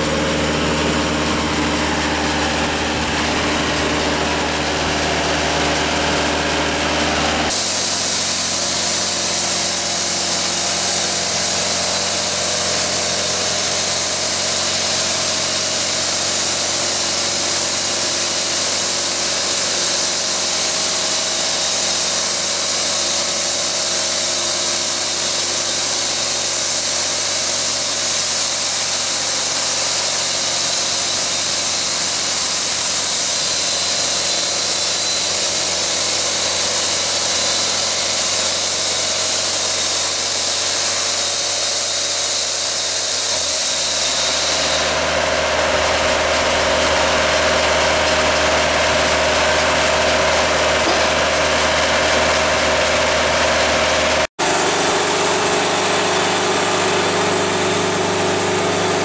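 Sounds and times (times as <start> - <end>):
saw high hiss: 0.0 - 53.2
band sawmill engine hum: 0.0 - 59.0.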